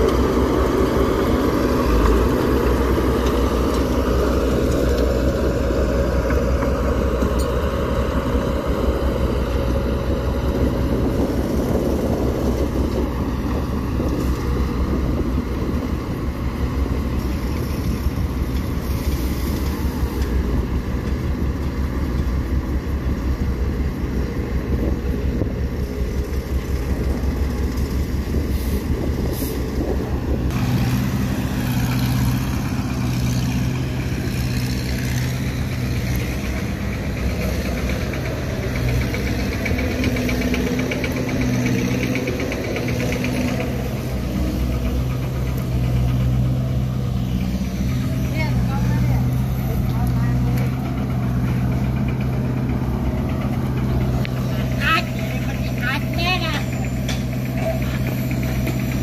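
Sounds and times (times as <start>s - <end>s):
diesel engines rumbling: 0.0s - 59.0s.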